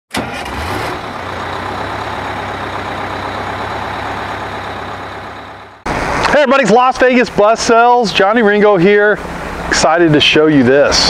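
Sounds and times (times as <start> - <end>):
large vehicle engine: 0.1 - 11.0.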